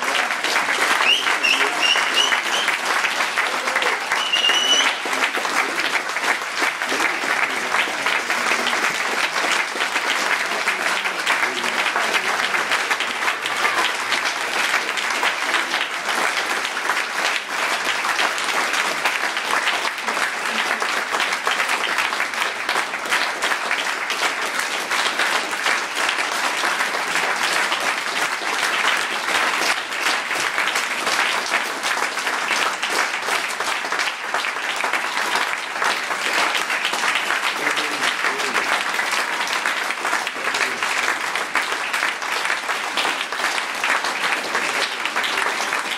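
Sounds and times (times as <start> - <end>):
audience clapping: 0.0 - 45.9.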